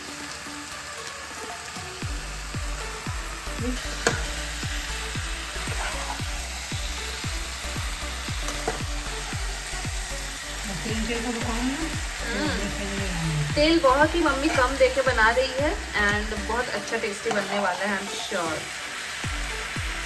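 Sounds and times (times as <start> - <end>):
chicken sizzling in a pan: 0.0 - 20.0.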